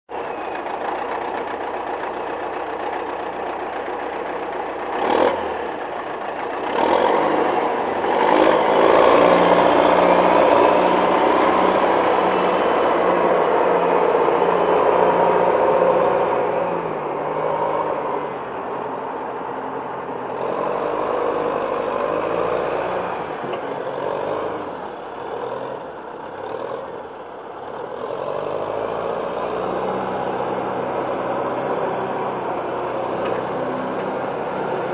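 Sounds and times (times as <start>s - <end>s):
wheel loader diesel engine running: 0.1s - 34.9s.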